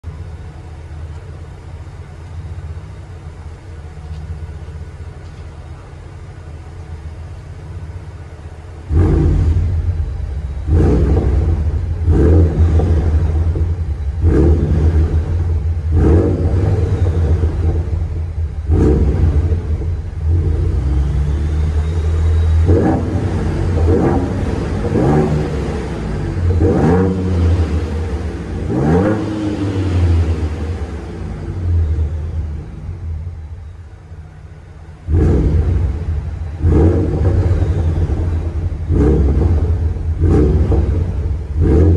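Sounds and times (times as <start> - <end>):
car exhaust idling: 0.0 - 41.9
engine throttle blips revving: 0.0 - 41.9.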